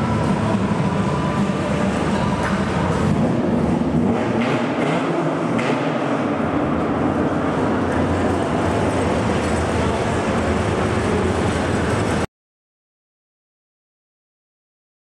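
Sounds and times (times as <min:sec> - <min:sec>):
diesel engine running: 0:00.0 - 0:12.3.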